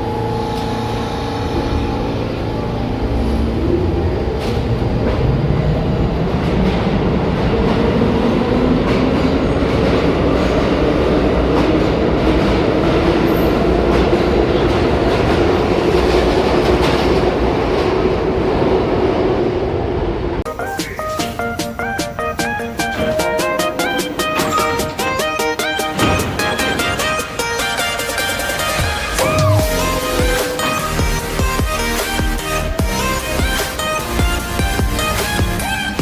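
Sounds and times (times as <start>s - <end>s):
subway train motors whining: 0.0s - 36.0s
wheels clattering on rails: 0.2s - 19.3s, 20.6s - 36.0s.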